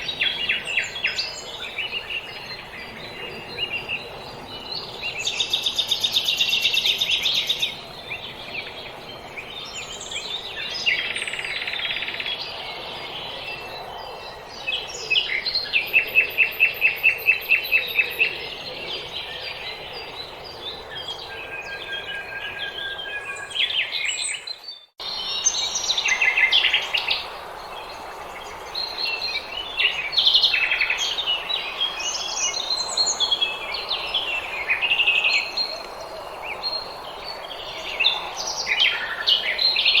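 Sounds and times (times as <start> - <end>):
songbirds singing: 0.0 - 40.0
steady outdoor hiss: 0.0 - 40.0.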